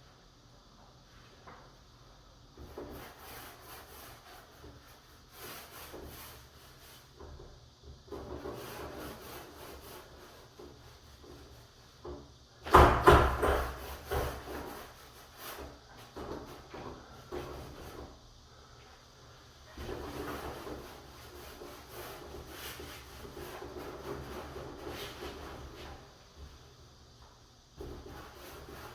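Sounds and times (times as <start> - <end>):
rubbing on wooden door: 2.6 - 18.2, 19.7 - 26.6, 27.7 - 28.9.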